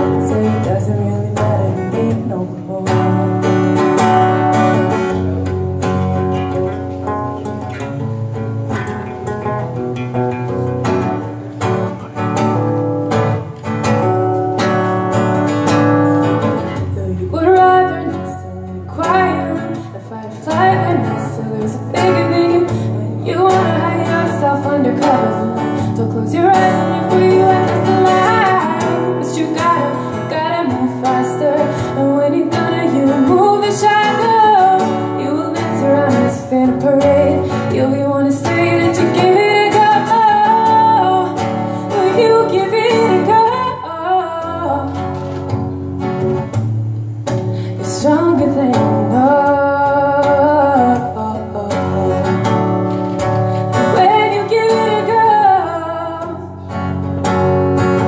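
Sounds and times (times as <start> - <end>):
woman singing: 0.0 - 8.8, 14.7 - 45.6, 47.3 - 57.4
acoustic guitar: 0.0 - 58.0.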